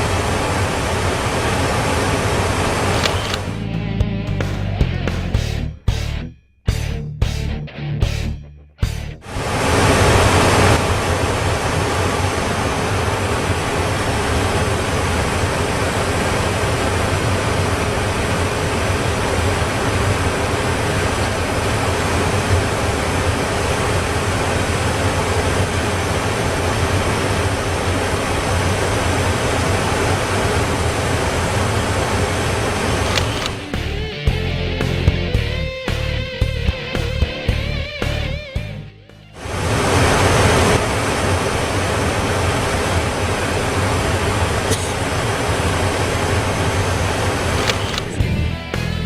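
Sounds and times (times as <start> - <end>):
vehicle cabin rush and hum: 0.0 - 5.4, 9.2 - 35.4, 39.4 - 48.7.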